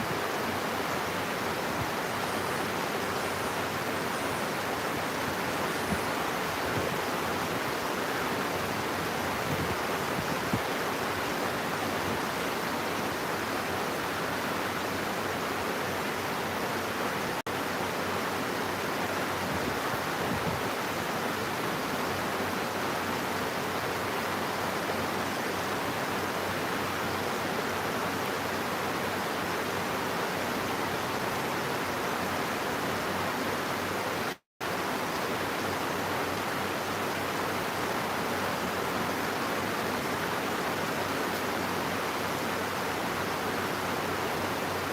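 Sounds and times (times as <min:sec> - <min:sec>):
rainfall hiss: 0:00.0 - 0:44.9.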